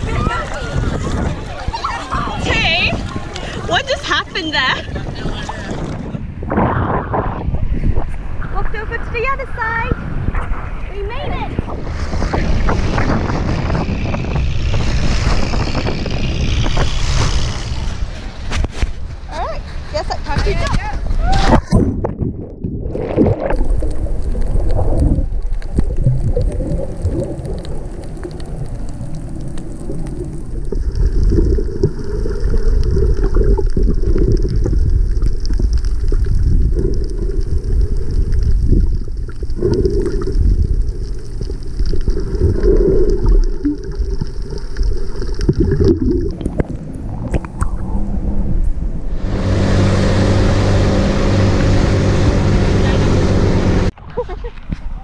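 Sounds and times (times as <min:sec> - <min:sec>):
muffled underwater water rumble: 0:00.0 - 0:55.0.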